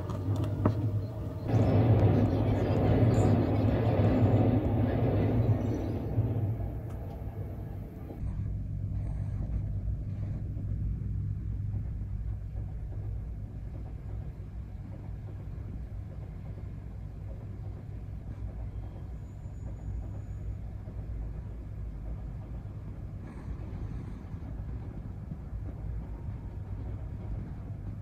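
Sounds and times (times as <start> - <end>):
city hum: 0.0 - 28.0
train rumbling past: 0.0 - 28.0.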